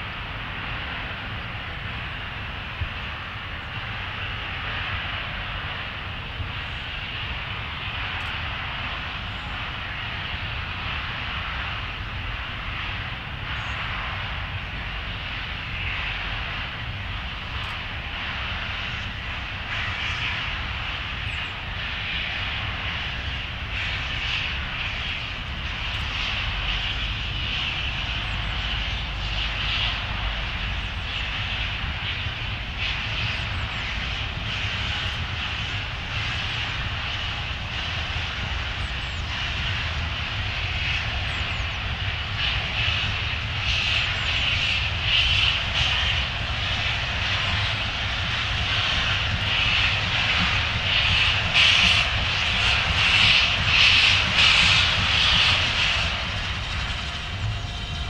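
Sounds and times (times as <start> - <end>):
locomotive low rumble: 0.0 - 58.0
steam hissing: 0.0 - 58.0.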